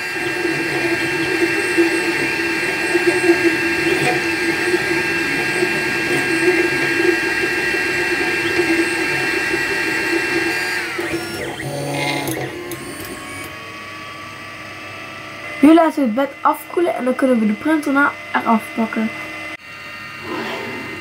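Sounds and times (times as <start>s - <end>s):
fan hum: 0.0s - 21.0s
stepper motor whine: 0.0s - 21.0s.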